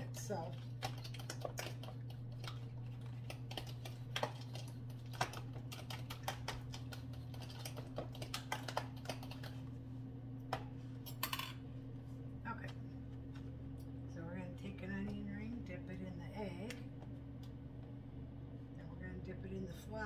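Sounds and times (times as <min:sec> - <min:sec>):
air fryer humming: 0:00.0 - 0:20.0.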